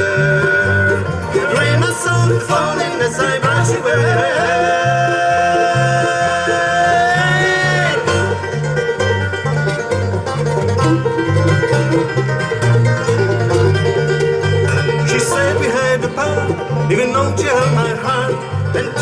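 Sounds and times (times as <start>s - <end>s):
banjo picking: 0.0s - 19.0s
bass line: 0.0s - 19.0s
guitar: 0.0s - 19.0s.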